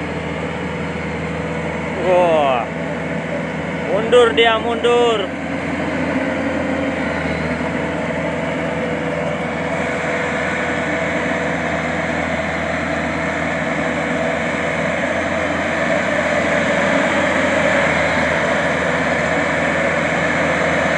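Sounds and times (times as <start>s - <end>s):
combine harvester engine running: 0.0s - 20.9s.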